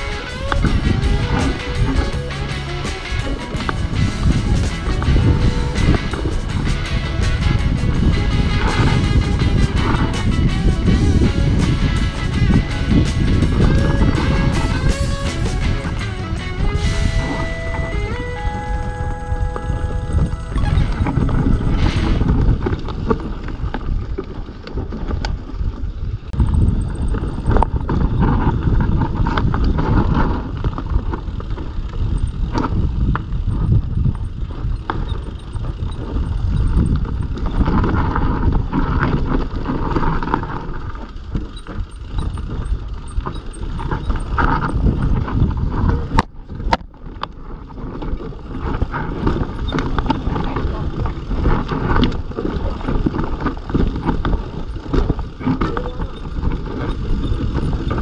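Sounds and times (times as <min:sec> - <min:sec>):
bike knocks and rattles: 0:00.0 - 0:16.8, 0:18.8 - 0:58.0
bike tyres on dirt and stones: 0:00.0 - 0:58.0
wind buffeting microphone: 0:00.0 - 0:58.0.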